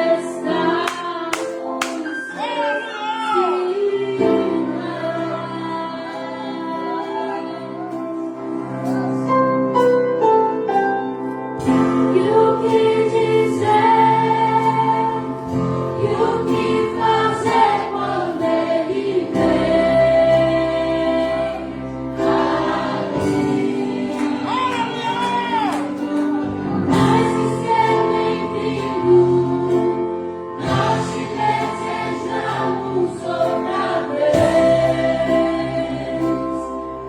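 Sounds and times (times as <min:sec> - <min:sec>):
choir singing: 0:00.0 - 0:09.4, 0:11.6 - 0:37.0
orchestra playing worship music: 0:00.0 - 0:37.0.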